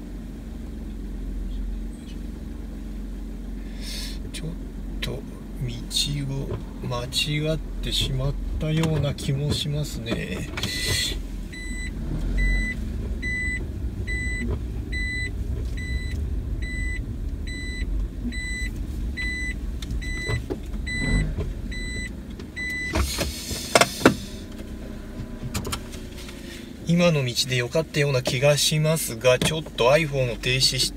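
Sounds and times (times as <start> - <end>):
engine and road noise: 0.0 - 30.9
turn signal ticking: 4.2 - 30.9.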